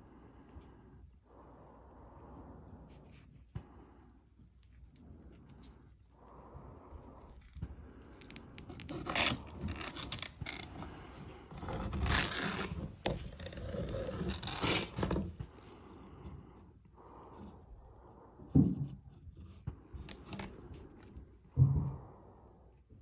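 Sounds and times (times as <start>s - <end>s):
scraping and rubbing of cable: 0.0s - 22.4s.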